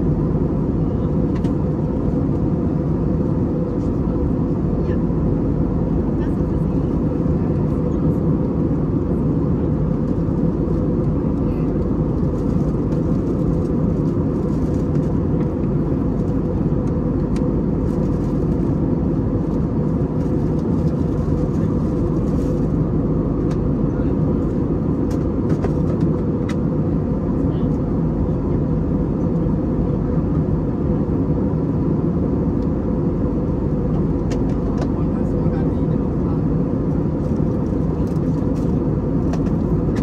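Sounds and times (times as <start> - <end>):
jet engines droning: 0.0 - 40.0.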